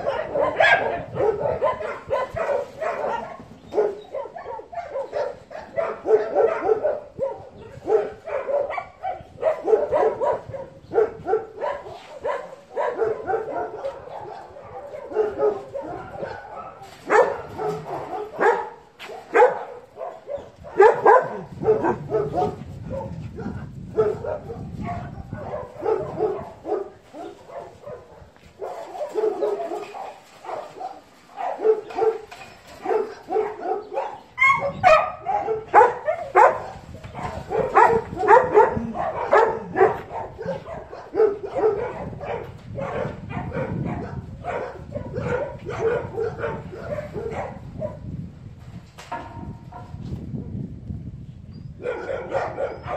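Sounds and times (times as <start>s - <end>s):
dogs barking: 0.0s - 48.1s, 49.1s - 50.0s, 51.8s - 52.9s.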